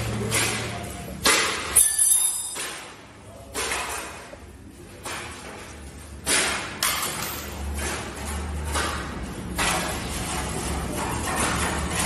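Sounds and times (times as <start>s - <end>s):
metal tools knocking and clanking: 0.2s - 4.4s, 5.0s - 12.0s.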